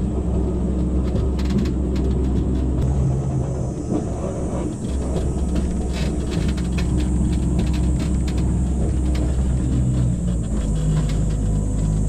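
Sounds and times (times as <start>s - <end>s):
light clicks and rattles: 0.0s - 2.9s, 4.5s - 12.0s
monorail car rumble and hum: 0.0s - 12.0s.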